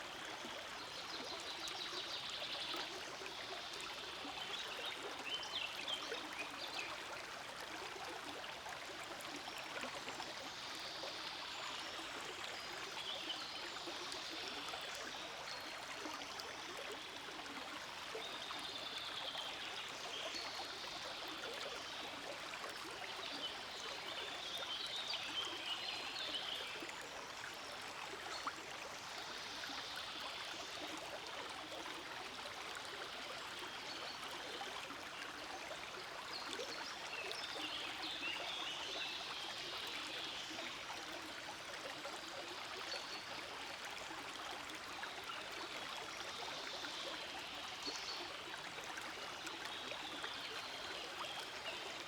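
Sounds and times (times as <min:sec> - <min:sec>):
forest stream babbling: 0:00.0 - 0:52.0.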